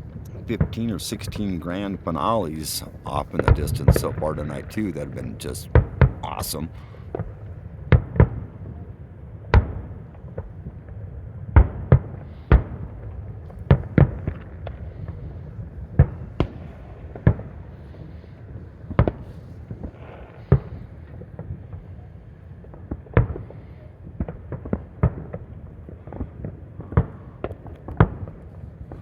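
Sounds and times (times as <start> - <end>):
fireworks bangs: 0.0 - 8.8, 11.6 - 22.0, 22.6 - 29.0.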